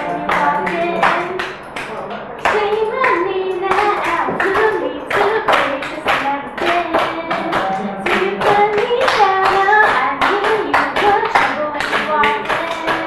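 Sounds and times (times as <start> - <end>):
rhythmic hand claps: 0.0 - 13.0.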